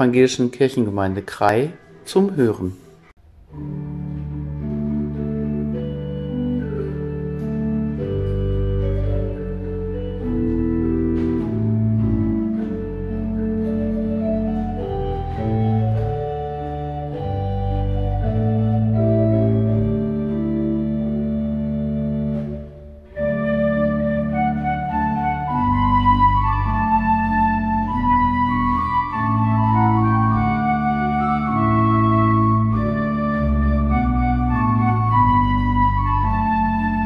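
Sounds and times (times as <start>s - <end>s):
church organ chords: 3.5s - 37.0s.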